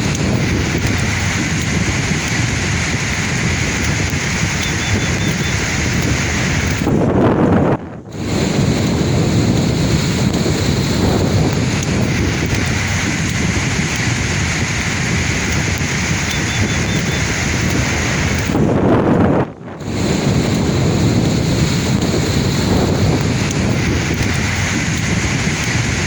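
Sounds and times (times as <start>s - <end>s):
sea waves washing onto shore: 0.0s - 7.1s, 8.1s - 18.8s, 19.8s - 26.0s.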